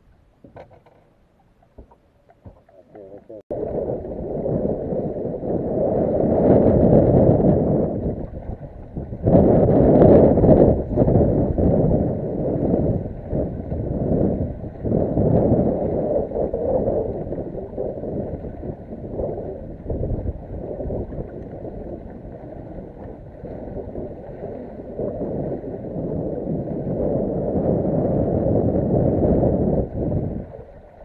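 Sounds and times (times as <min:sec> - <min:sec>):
water lapping against boat hull: 0:00.0 - 0:31.0
wind rumbling on microphone: 0:00.0 - 0:31.0.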